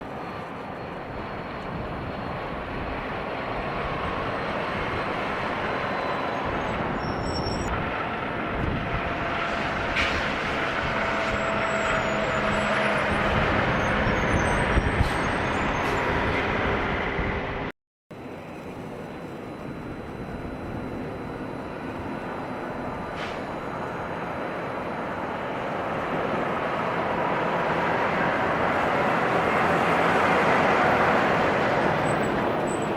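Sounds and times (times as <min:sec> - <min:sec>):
diesel truck driving by: 0:00.1 - 0:17.7, 0:18.3 - 0:32.9.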